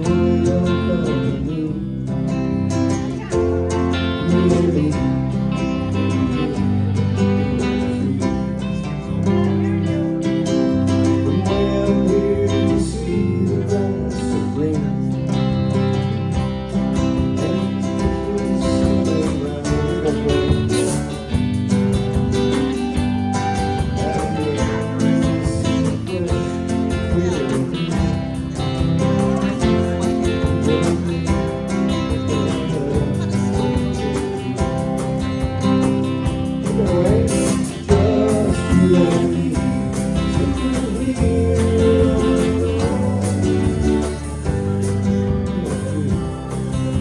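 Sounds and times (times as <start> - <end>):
live band playing: 0.0 - 47.0
strummed guitar: 0.0 - 47.0.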